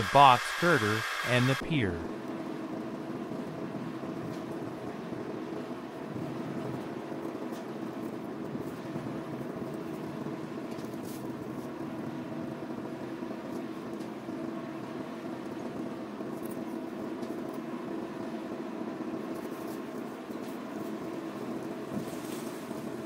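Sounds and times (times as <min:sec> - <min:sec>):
steady mechanical drone: 0:00.0 - 0:23.0.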